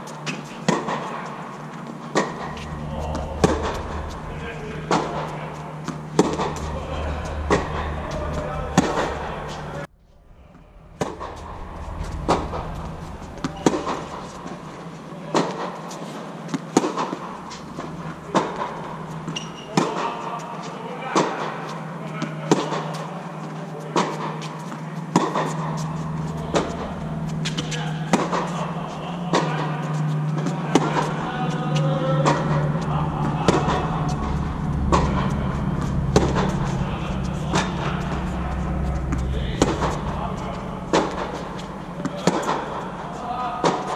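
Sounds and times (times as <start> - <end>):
low hum: 0.0 - 23.7, 24.6 - 43.9.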